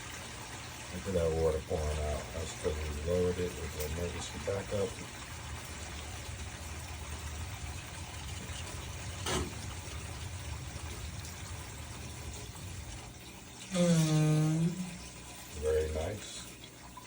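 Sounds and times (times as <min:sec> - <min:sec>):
water pouring from a pipe: 0:00.0 - 0:17.0.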